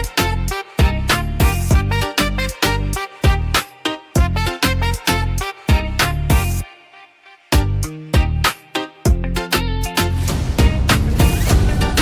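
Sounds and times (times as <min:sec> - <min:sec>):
music with steady beat and heavy bass: 0:00.0 - 0:06.7, 0:07.5 - 0:12.0.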